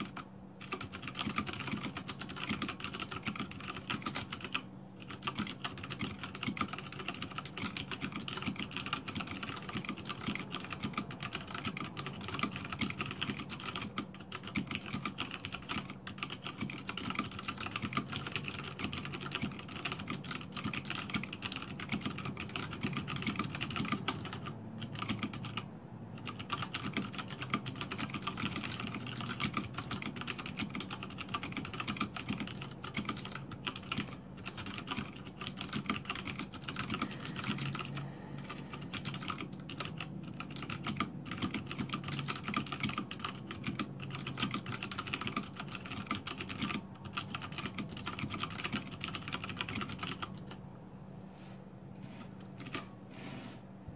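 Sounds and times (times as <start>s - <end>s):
mechanical keyboard typing: 0.0s - 50.6s, 52.4s - 52.9s.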